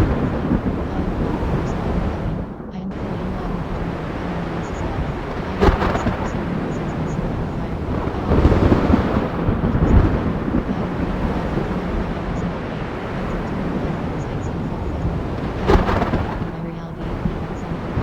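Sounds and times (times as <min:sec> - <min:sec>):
rolling rumble of thunder: 0:00.0 - 0:18.0
rushing rain noise: 0:00.0 - 0:18.0
thunder crack: 0:00.0 - 0:18.0.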